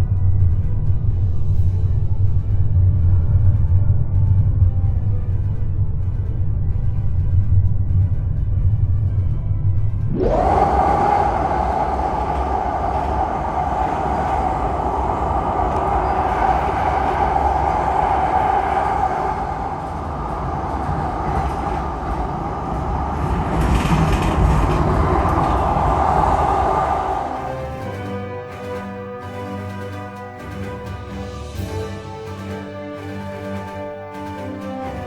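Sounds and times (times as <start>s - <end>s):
constant whine: 0.0s - 35.0s
trolley rumble and rail noise: 0.0s - 35.0s.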